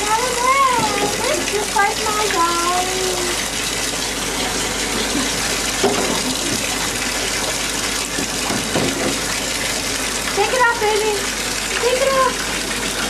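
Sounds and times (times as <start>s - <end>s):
water running from a bathtub tap: 0.0s - 13.0s.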